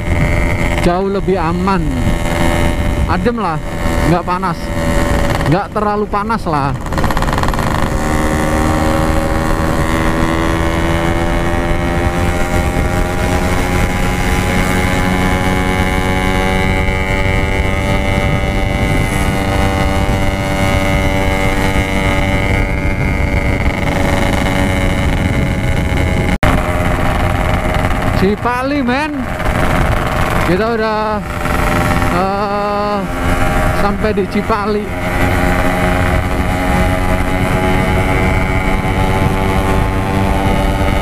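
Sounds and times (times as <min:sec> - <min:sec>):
motorcycle engine running: 0:00.0 - 0:41.0
wind noise on microphone: 0:00.0 - 0:41.0.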